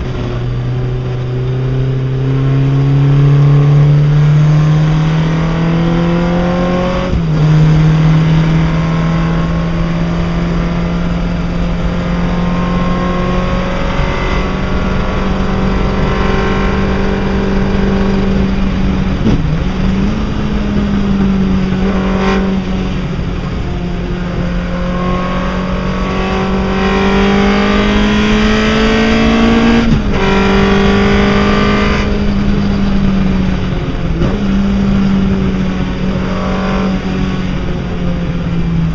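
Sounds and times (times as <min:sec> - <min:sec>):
racing car engine revving: 0:00.0 - 0:38.9
wind and road noise: 0:00.0 - 0:38.9.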